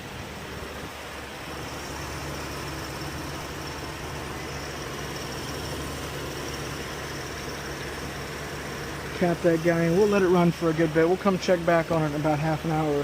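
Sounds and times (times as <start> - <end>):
air conditioning running: 0.0 - 13.0
car engine idling: 0.0 - 13.0
faint high whine: 0.0 - 13.0.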